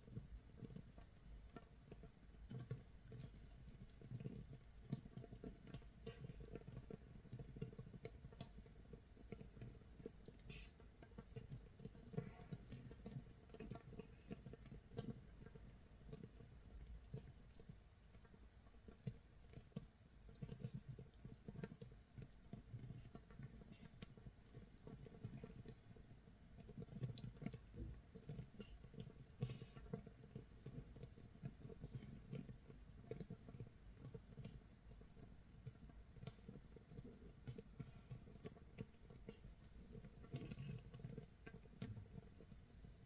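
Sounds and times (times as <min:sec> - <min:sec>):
faint crackle of bursting bubbles: 0:00.0 - 0:43.0.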